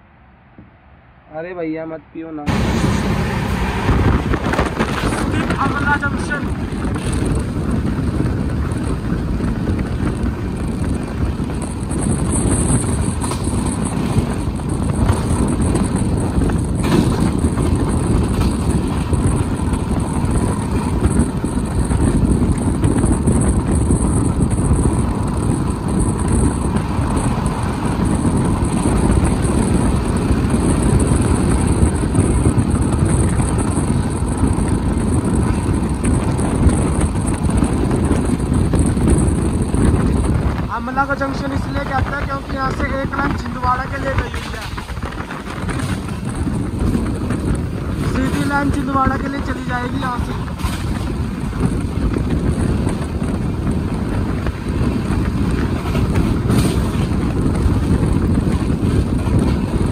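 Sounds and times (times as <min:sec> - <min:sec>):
train wheels rumbling on rails: 0:02.5 - 0:59.9.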